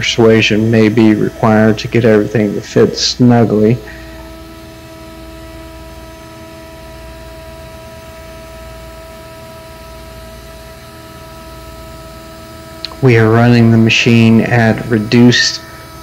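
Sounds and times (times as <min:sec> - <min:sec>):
router whining: 0:00.0 - 0:16.0.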